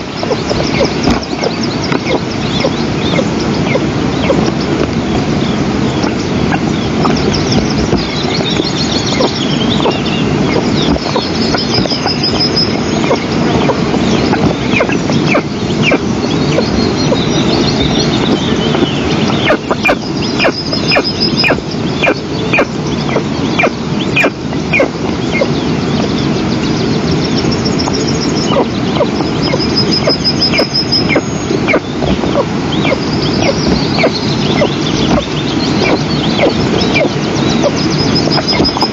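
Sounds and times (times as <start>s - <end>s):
chicks begging calls: 0.0s - 38.9s
steady rushing noise: 0.0s - 38.9s
trilled high bird calls: 0.0s - 38.9s.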